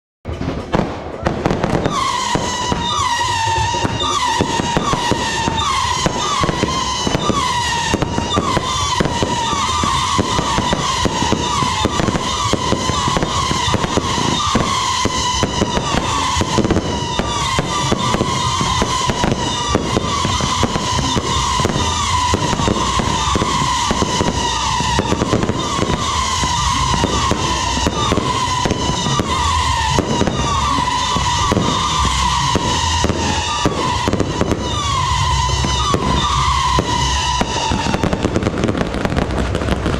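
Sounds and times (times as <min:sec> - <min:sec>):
fireworks crackling and popping: 0:00.3 - 0:39.9
fireworks whistling: 0:00.3 - 0:39.9.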